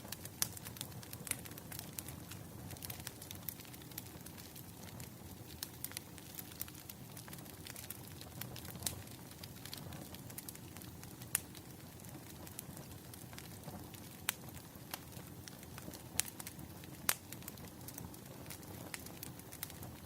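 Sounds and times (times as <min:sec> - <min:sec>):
firewood crackling: 0:00.0 - 0:20.0.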